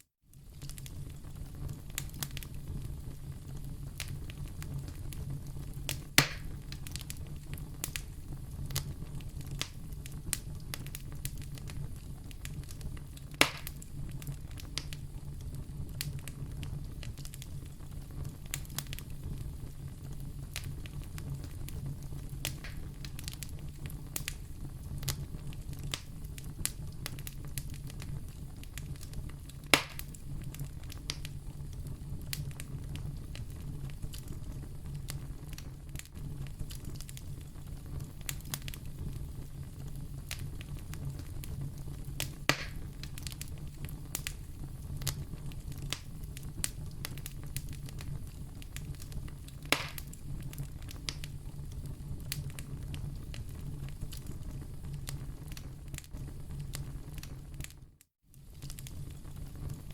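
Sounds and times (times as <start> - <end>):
fire crackling in fireplace: 0.1 - 59.9
loud fire pops: 0.4 - 57.8, 58.4 - 59.9.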